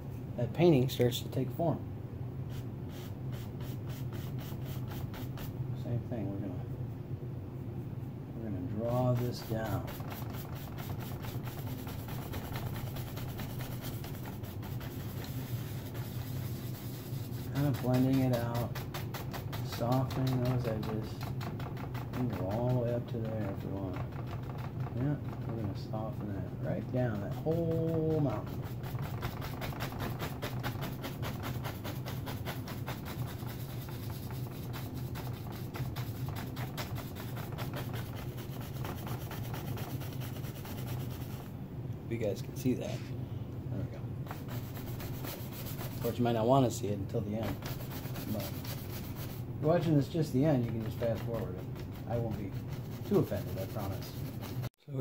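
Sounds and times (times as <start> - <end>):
steady low hum: 0.0 - 55.0
bristle brush scrubbing canvas: 2.5 - 5.6, 8.8 - 41.5, 44.2 - 54.8.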